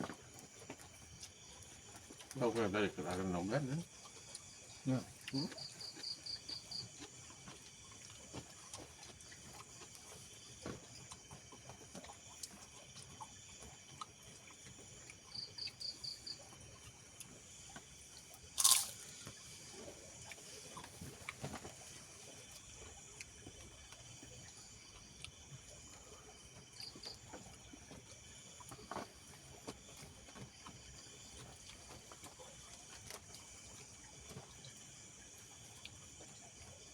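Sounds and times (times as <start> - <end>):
insects chirping: 0.0 - 36.9
soft eating sounds: 0.0 - 36.9.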